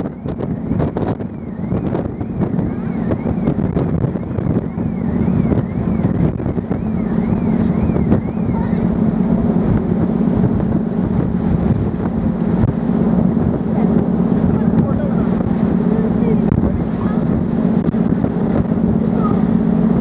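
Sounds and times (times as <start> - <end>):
sea water rushing along hull: 0.0 - 20.0
ship engines humming: 0.0 - 20.0
wind buffeting microphone: 0.0 - 20.0.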